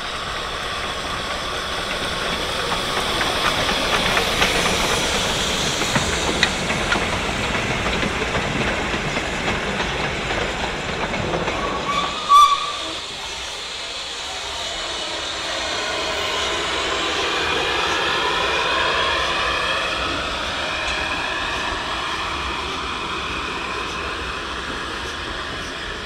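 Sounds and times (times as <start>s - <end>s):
steam locomotive toot: 0.0s - 26.0s
steam train rumbling: 0.0s - 26.0s.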